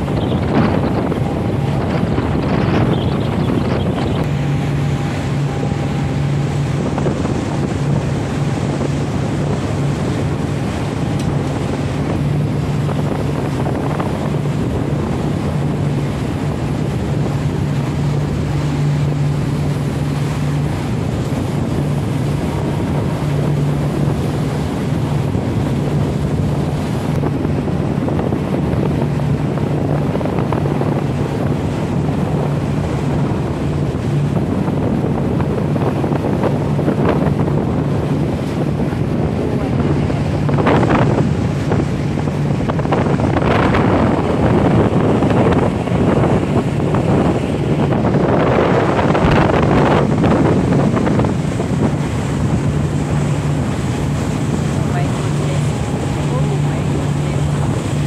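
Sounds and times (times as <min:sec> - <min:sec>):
boat engine humming: 0:00.0 - 0:58.0
water wash: 0:00.0 - 0:58.0
wind buffeting microphone: 0:00.0 - 0:58.0.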